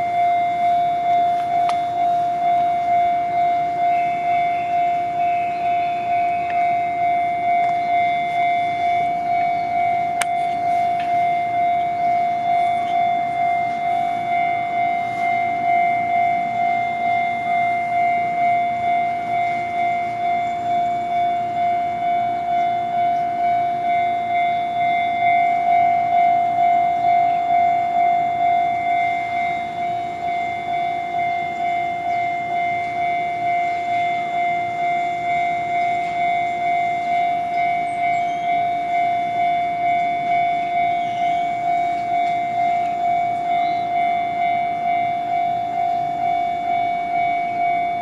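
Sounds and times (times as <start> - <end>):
level crossing warning bell: 0.0 - 48.0.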